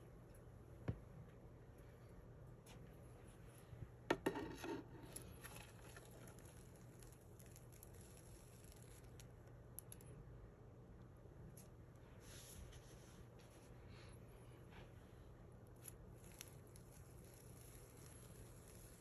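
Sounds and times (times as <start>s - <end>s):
faint crackling and rustling: 0.4s - 10.2s, 11.5s - 19.0s.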